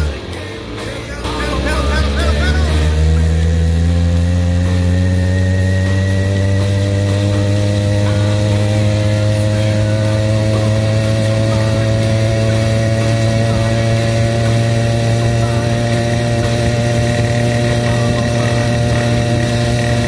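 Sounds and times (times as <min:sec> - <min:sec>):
two-stroke engine running steadily: 0:00.0 - 0:20.0.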